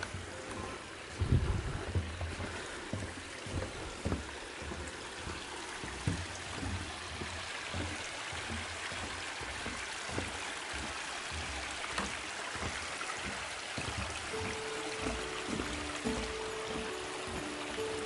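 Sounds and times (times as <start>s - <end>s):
soft low thumps: 0.0s - 18.0s
stream running over stones: 0.0s - 18.0s.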